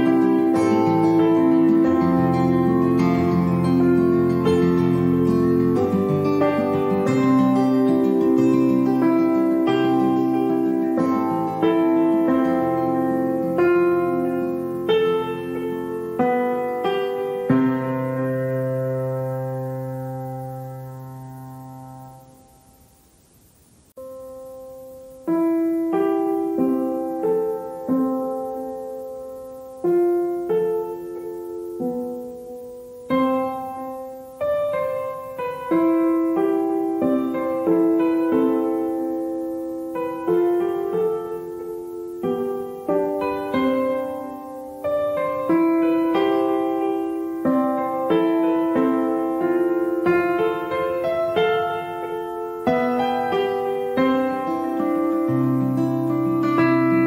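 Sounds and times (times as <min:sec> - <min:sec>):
slow gentle piano music: 0:00.0 - 0:23.0, 0:23.9 - 0:57.0.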